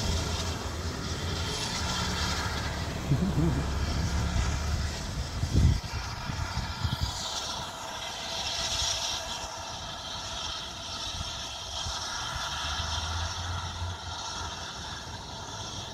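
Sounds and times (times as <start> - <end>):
distant steam locomotive hissing: 0.0 - 15.9.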